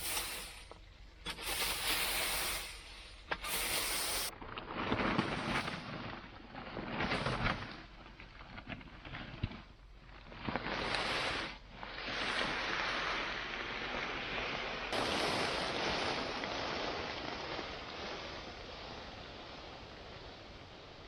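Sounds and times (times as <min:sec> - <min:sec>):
bonfire flames rushing: 0:00.0 - 0:21.0
fire crackles and pops: 0:00.0 - 0:21.0.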